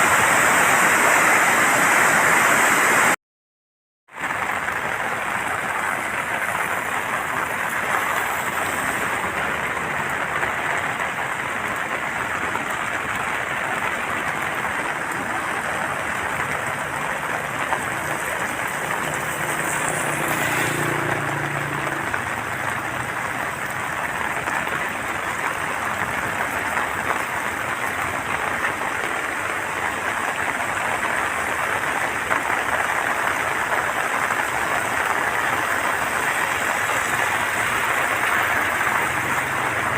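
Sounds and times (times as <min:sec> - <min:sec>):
water rushing through dam gates: 0:00.0 - 0:03.2, 0:04.2 - 0:19.3, 0:19.9 - 0:39.9.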